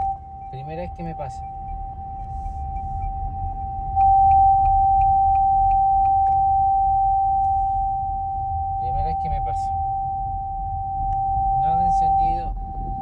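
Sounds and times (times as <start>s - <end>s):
high-pitched electronic tone: 0.0s - 13.0s.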